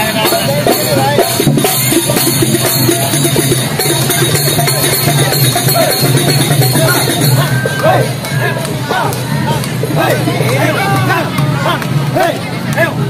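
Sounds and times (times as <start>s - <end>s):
percussion-heavy music with drums: 0.0s - 13.0s.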